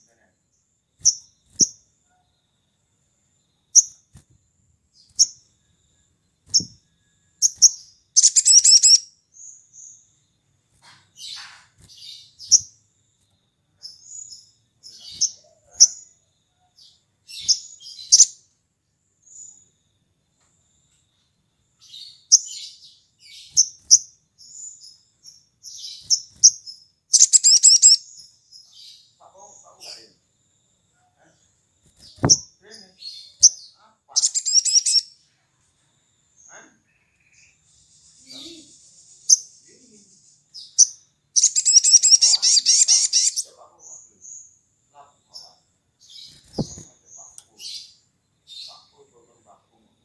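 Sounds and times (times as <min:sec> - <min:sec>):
bird chirping: 0:00.0 - 0:50.0.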